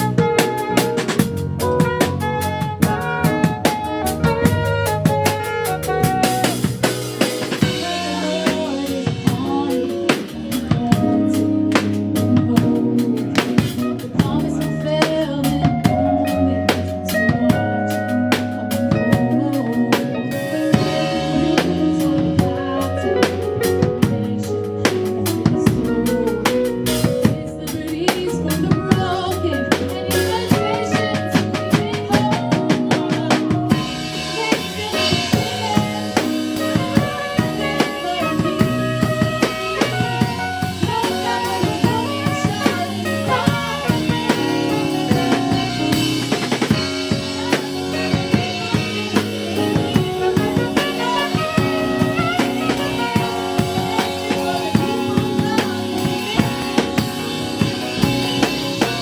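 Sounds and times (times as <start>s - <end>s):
bass guitar: 0.0s - 59.0s
drum kit playing: 0.0s - 59.0s.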